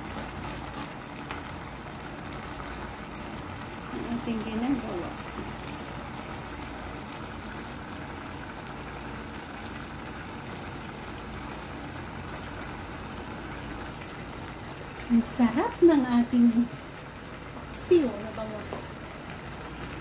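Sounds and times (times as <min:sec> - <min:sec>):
sauce bubbling in a pan: 0:00.0 - 0:20.0.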